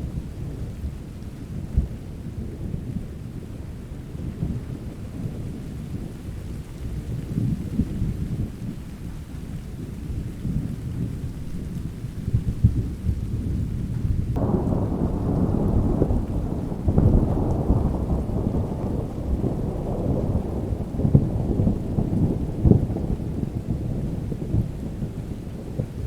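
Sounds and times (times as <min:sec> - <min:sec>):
rain: 0:00.0 - 0:26.0
thunder rumbling: 0:00.0 - 0:26.0.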